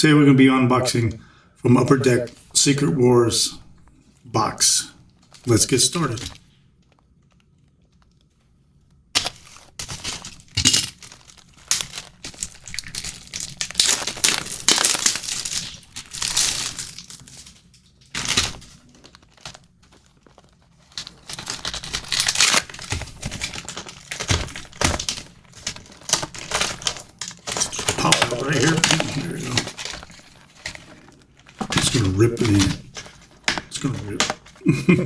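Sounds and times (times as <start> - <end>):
plastic wrapping crinkling and tearing: 3.7 - 35.0.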